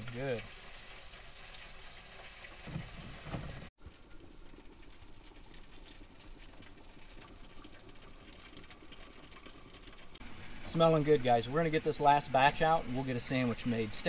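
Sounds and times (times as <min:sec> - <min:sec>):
oil sizzling in deep fryer: 0:00.0 - 0:14.0.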